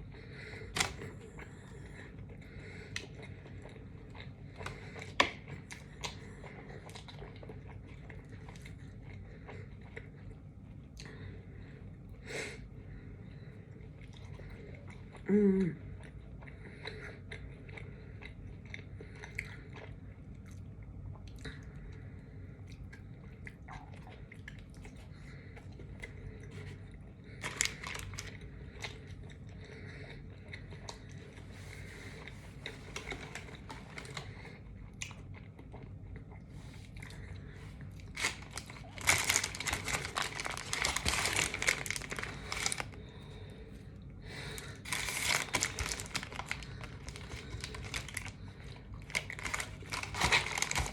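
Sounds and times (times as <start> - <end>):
chewing crunchy sandwich: 0.0 - 50.9.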